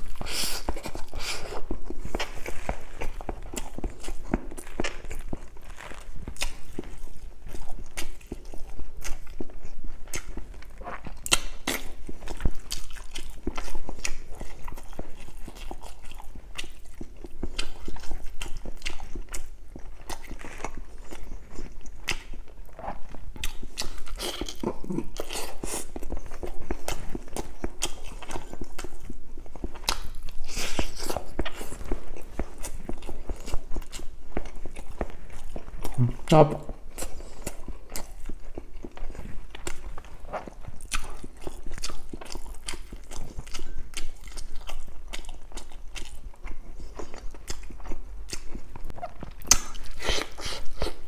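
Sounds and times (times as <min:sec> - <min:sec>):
chewing and biting food: 0:00.0 - 0:51.0.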